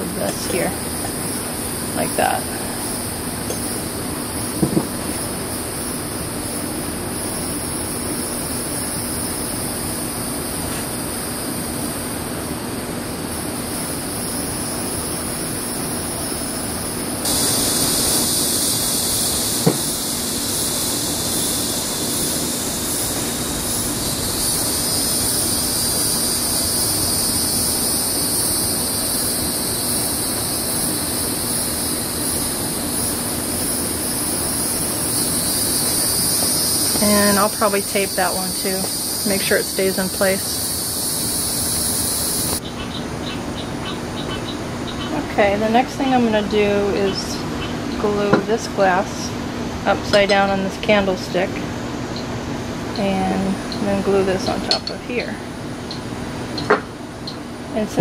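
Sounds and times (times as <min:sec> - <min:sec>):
insect chorus: 0:00.0 - 0:50.7
high insect drone: 0:00.0 - 0:57.9
low steady hum: 0:00.0 - 0:58.0.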